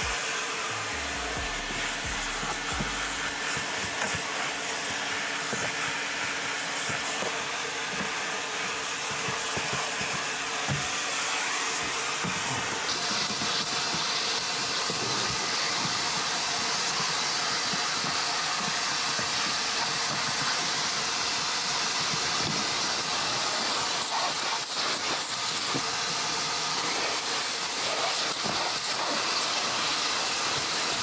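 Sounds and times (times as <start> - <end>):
vacuum cleaner sucking carpet: 0.0 - 31.0.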